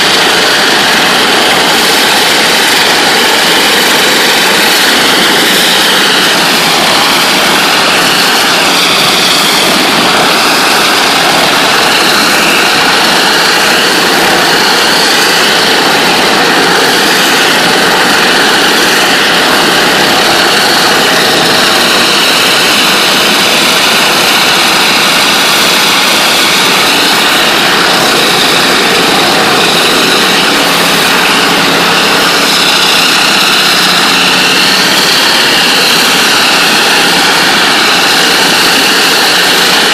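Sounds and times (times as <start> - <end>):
high-pressure water jets hissing: 0.0 - 39.9.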